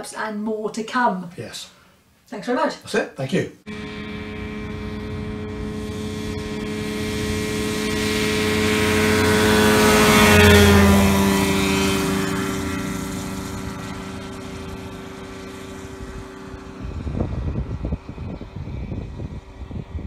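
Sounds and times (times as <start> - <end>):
microlight engine and propeller: 3.7 - 20.0.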